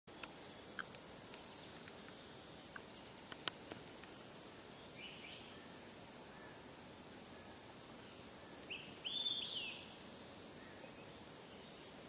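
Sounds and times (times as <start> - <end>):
faint steady hiss: 0.1 - 12.0
songbird calls: 0.4 - 12.0.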